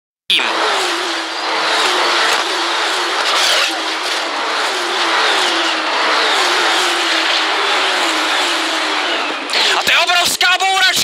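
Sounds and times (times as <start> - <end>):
racing car engines: 0.3 - 11.0.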